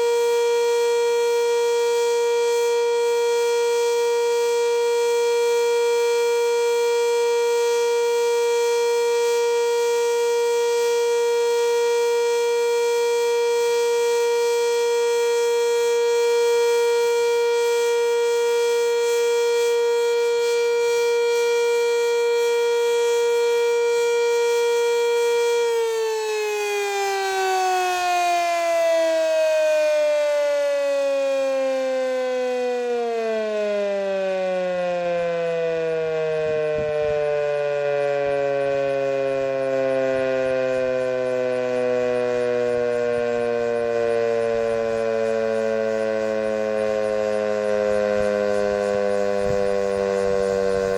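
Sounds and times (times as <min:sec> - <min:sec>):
warning siren winding down: 0:00.0 - 0:50.9.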